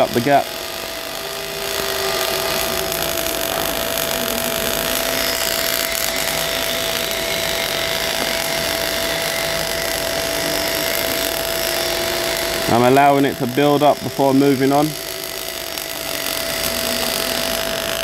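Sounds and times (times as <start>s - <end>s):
steady hum: 0.0s - 18.0s
welding arc hissing: 0.0s - 18.0s.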